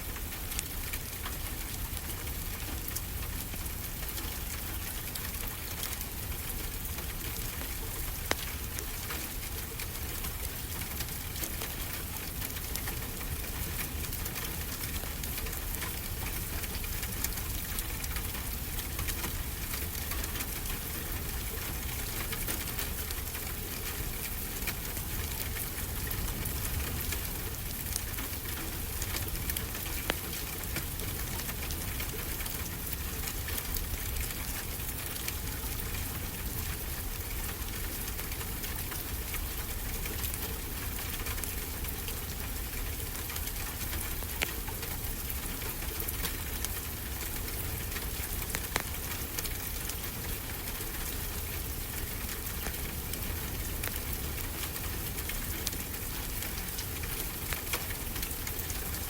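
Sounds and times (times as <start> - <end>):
steady rain: 0.0 - 59.0
wood fire crackling: 0.1 - 59.0.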